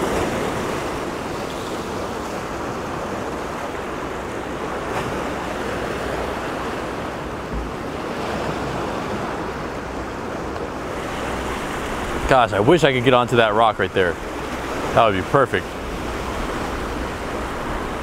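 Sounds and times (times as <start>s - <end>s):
surf breaking on rocky shore: 0.0s - 18.0s.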